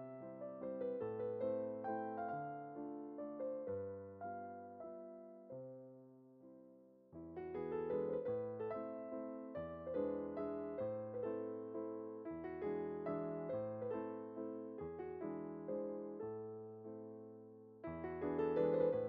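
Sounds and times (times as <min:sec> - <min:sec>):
gentle piano tune: 0:00.0 - 0:19.0.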